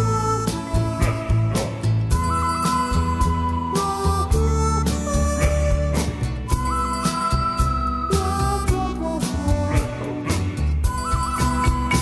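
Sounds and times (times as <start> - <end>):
bass: 0.0 - 12.0
harmonica-like lead melody: 0.0 - 12.0
steady drum beat: 0.0 - 12.0.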